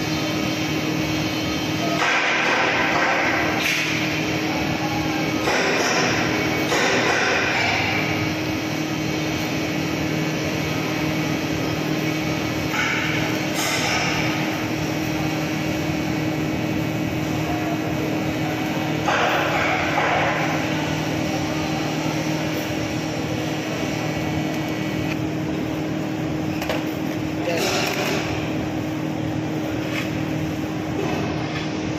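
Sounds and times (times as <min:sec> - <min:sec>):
welding arc hissing: 0:00.0 - 0:31.5.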